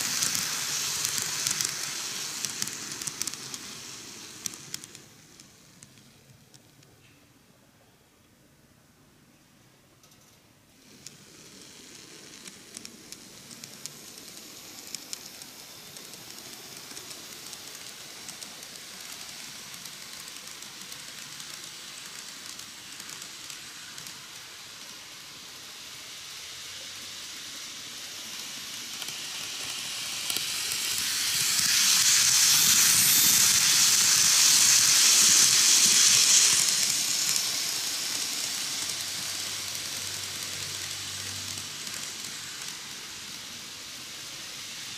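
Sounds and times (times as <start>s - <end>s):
model train whirring on track: 0.0s - 6.9s, 10.0s - 44.9s.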